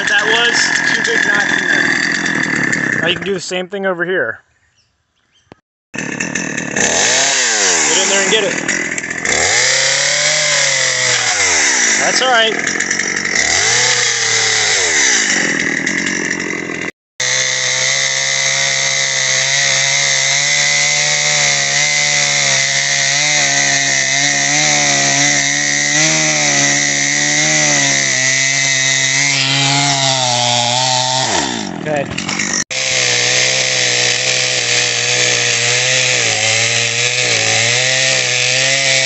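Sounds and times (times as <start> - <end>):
chainsaw cutting through log: 0.0 - 3.5, 6.0 - 39.0.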